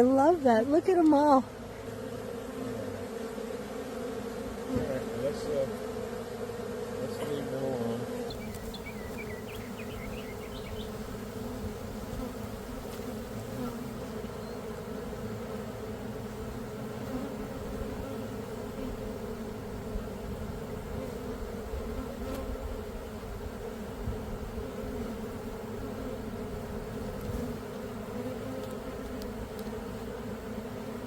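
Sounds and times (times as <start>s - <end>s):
swarm of bees humming: 0.0s - 31.0s.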